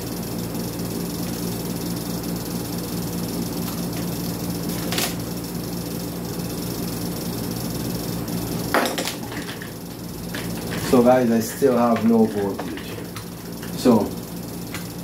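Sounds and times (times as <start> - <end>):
transformer mains hum: 0.0 - 15.0.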